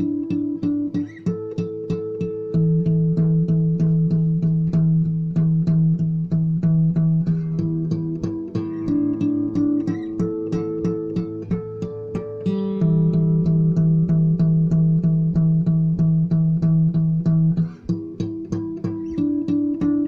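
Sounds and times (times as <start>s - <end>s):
plucked guitar notes: 0.0s - 20.0s
sustained bass notes: 2.5s - 20.0s.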